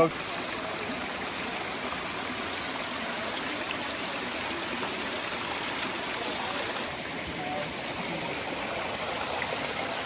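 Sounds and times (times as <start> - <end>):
waterfall rushing water: 0.0 - 10.0.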